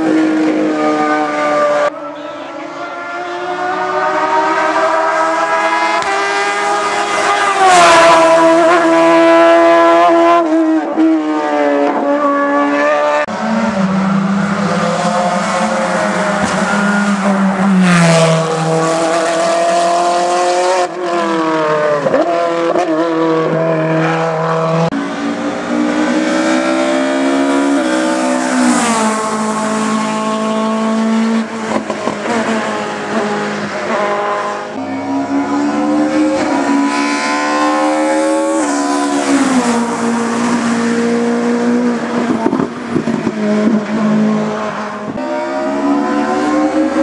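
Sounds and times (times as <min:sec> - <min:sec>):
racing car engines revving: 0:00.0 - 0:47.0.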